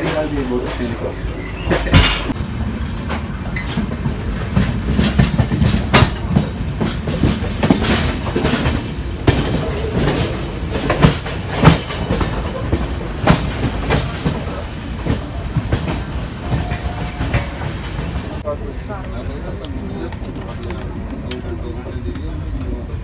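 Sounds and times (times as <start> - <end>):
train coach rumbling: 0.0 - 23.0
wheels clacking on rails: 0.0 - 23.0.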